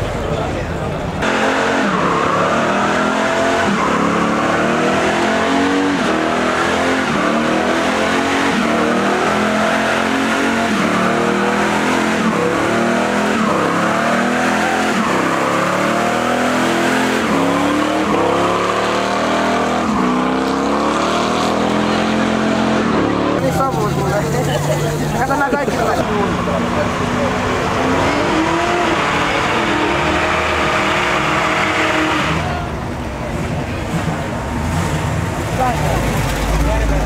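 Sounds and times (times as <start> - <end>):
tyres squealing on asphalt: 0.0 - 37.0
car engine revving hard: 1.2 - 37.0.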